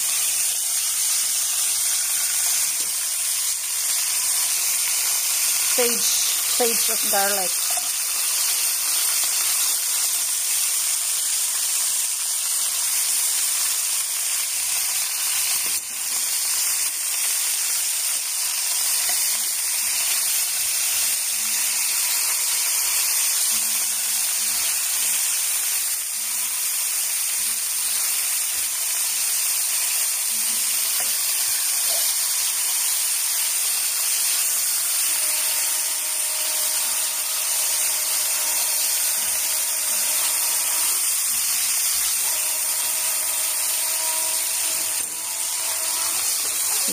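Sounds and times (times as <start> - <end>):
chicken sizzling in pot: 0.0 - 46.9.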